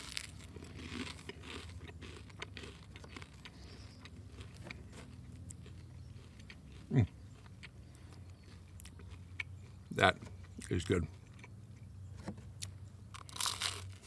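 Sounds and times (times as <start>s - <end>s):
person chewing bread: 0.0s - 14.0s.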